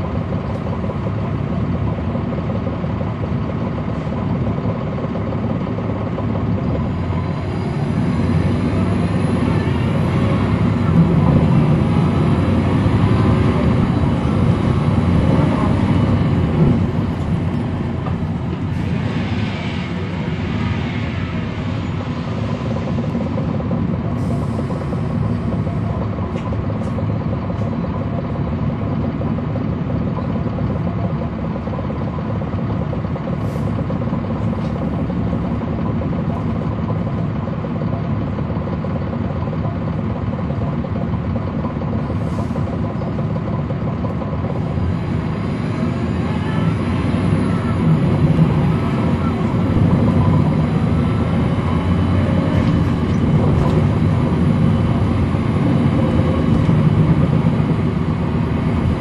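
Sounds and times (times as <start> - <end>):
bus diesel engine drone: 0.0 - 59.0.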